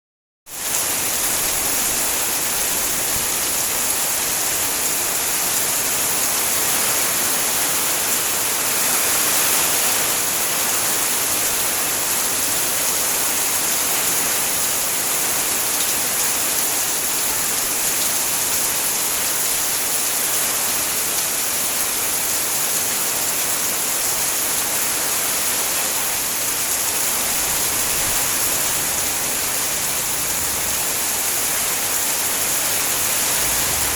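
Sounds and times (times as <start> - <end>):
heavy rain pouring: 0.5 - 33.9.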